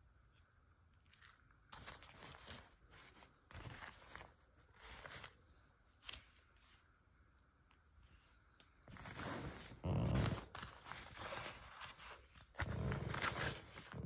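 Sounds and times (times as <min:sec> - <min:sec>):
synthetic fabric rustling: 0:00.2 - 0:07.1, 0:07.8 - 0:14.0.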